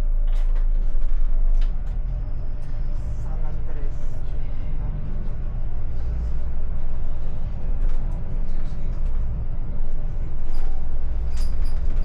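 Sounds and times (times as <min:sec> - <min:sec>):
vehicle rumbling: 0:00.0 - 0:12.0.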